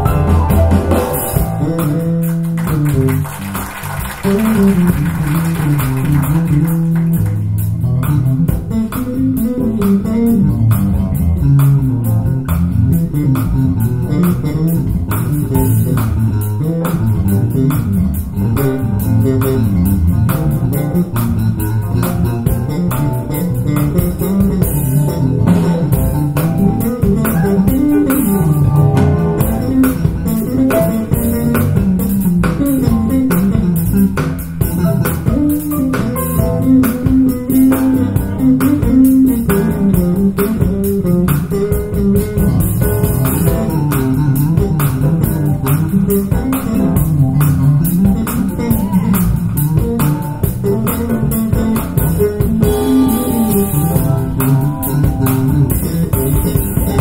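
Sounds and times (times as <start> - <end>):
music with bass and guitar: 0.0 - 57.0.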